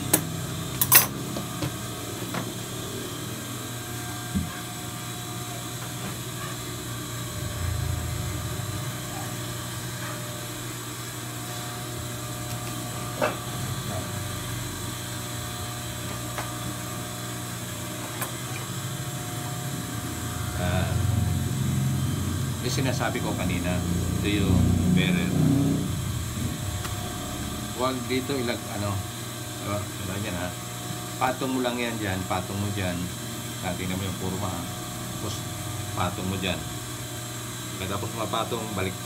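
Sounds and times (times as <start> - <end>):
steady low hum: 0.0 - 38.6.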